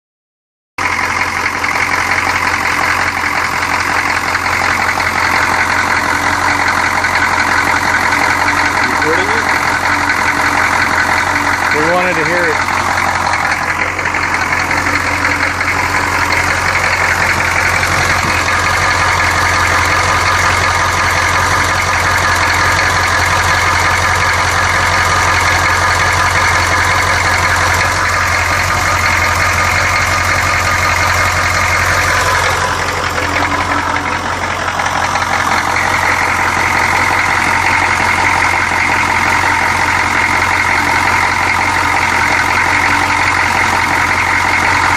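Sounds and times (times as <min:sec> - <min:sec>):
diesel engine idling with knock: 0:00.8 - 0:44.9.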